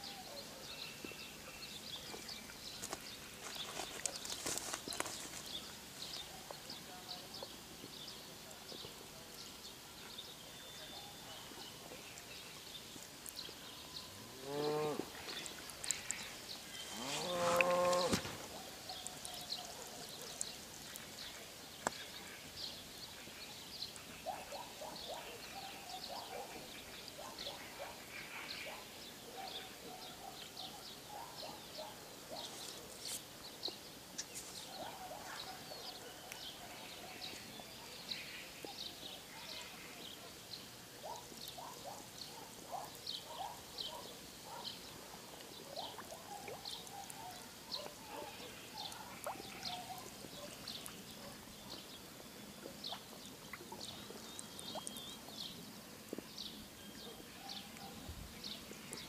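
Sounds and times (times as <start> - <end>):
birds calling: 10.1 - 40.4, 41.0 - 59.0.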